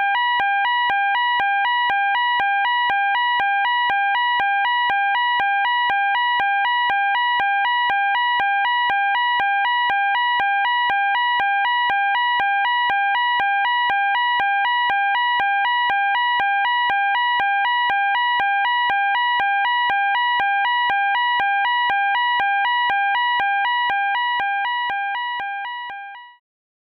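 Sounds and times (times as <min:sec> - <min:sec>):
fire alarm two-tone warble: 0:00.0 - 0:26.4.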